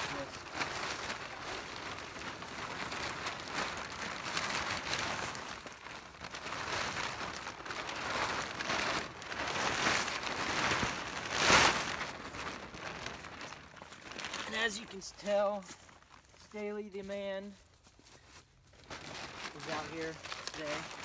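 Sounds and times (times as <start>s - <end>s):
plastic tarp crinkling and rustling: 0.0s - 21.0s.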